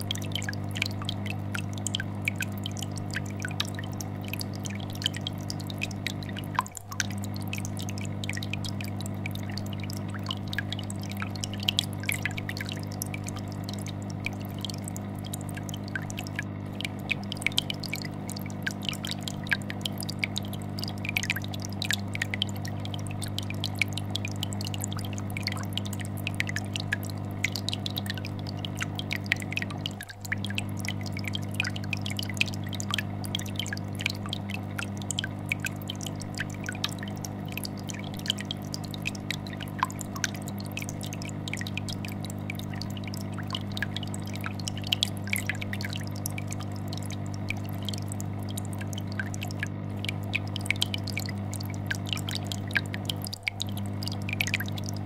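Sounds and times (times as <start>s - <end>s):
aquarium air bubbler bubbling: 0.0s - 55.0s
fish tank filter hum: 0.0s - 55.0s.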